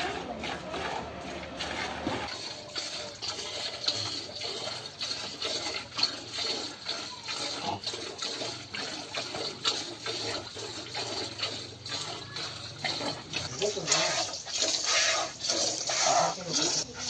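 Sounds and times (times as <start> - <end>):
milk squirting into bucket: 0.0 - 17.0.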